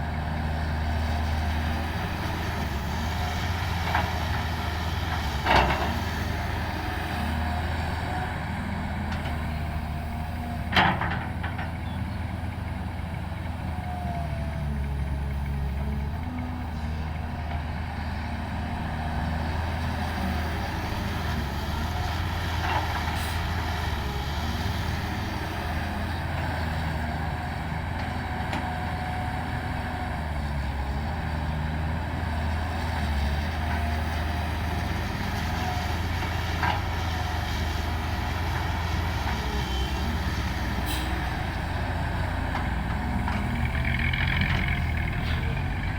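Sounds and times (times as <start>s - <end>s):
heavy diesel machinery running: 0.0s - 45.9s.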